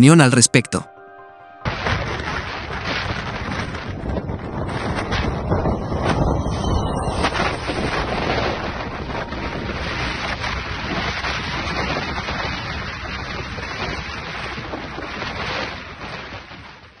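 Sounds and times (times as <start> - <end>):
strong wind buffeting microphone: 1.7 - 17.0.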